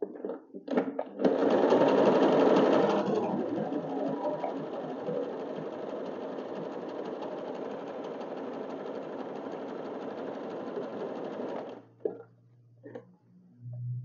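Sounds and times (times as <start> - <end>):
sewing machine stitching: 0.2 - 11.9.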